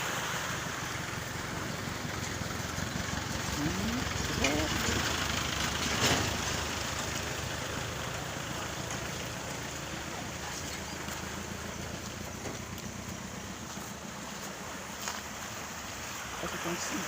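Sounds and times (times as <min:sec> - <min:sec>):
falling rain: 0:00.0 - 0:17.0
rushing floodwater: 0:00.0 - 0:17.0.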